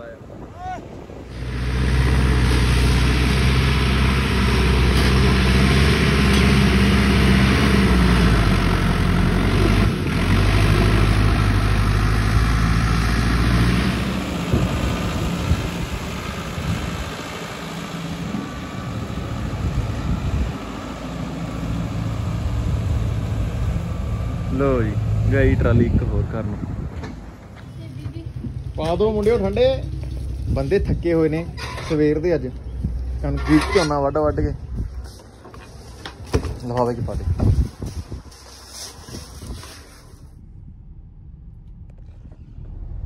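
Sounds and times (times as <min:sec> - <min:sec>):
tractor diesel engine running: 0:01.0 - 0:43.0.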